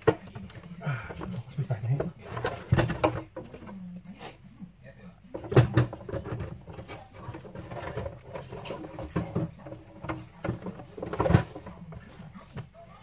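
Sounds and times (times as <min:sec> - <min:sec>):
plastic parts clicking and rattling: 0:00.0 - 0:03.8, 0:05.3 - 0:12.7.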